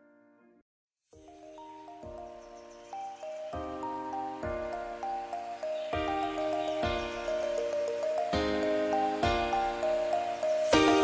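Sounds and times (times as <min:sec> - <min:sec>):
instrumental background music: 0:01.2 - 0:11.0.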